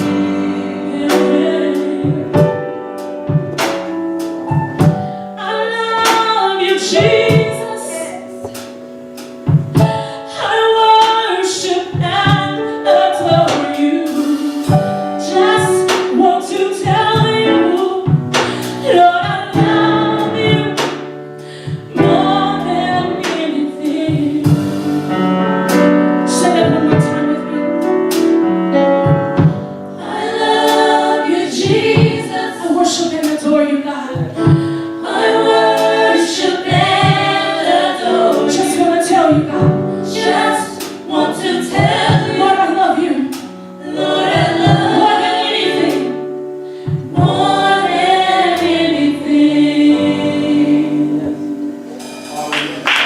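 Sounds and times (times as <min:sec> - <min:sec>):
gospel group singing: 0:00.0 - 0:53.0
instrumental accompaniment with beat: 0:00.0 - 0:53.0.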